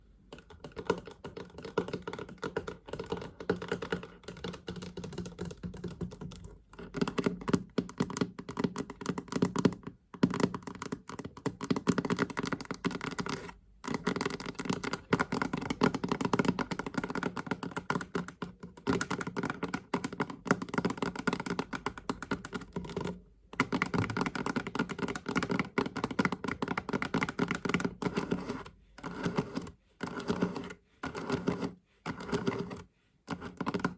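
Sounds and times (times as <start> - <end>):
fast tapping on a chest: 0.3 - 33.9.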